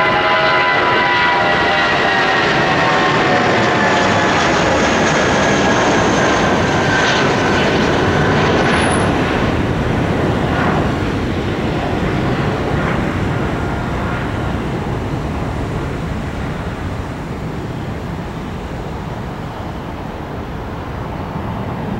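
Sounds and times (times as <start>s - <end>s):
jet airliner climbing: 0.0s - 21.9s.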